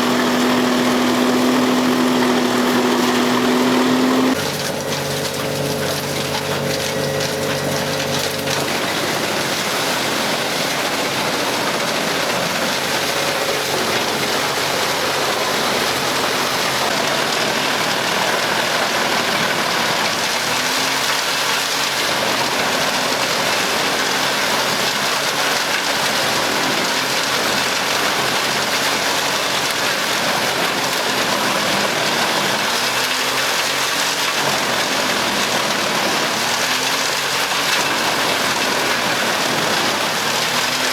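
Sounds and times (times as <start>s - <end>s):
wood being chipped rushing: 0.0s - 40.9s
wood chipper engine: 0.0s - 40.9s.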